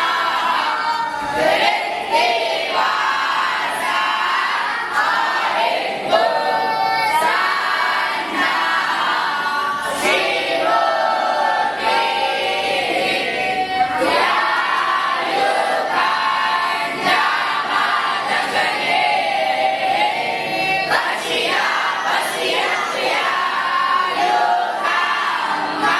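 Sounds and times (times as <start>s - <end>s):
group chanting a hymn: 0.0s - 25.9s.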